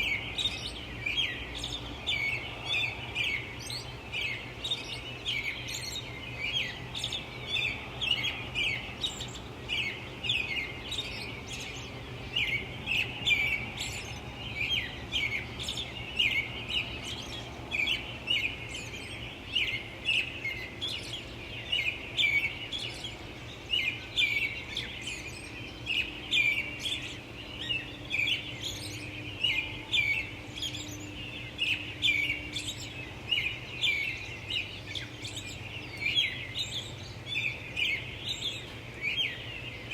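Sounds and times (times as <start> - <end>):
distant traffic hum: 0.0 - 39.9
small birds chirping: 0.0 - 39.9.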